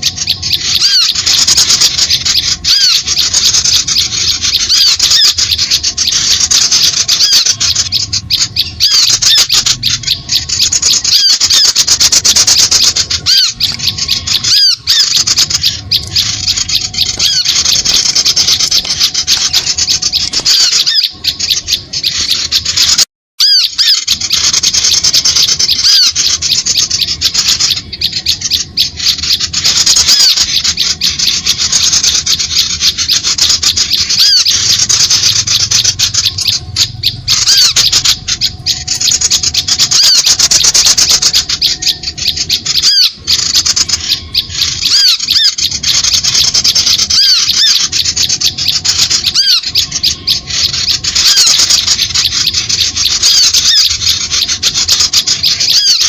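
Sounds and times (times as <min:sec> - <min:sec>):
small birds chattering: 0:00.0 - 0:56.0.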